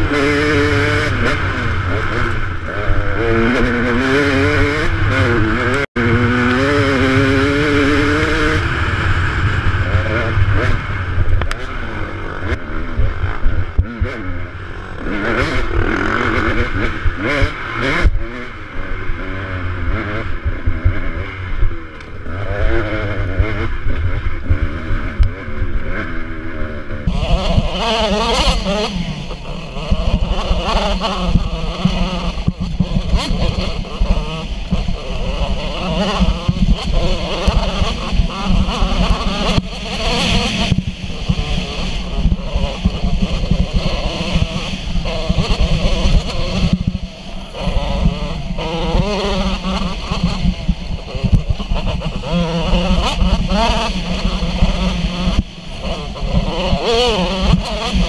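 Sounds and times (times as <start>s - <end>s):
dirt bike engine revving: 0.0s - 58.0s
wind rumble on microphone: 0.0s - 58.0s.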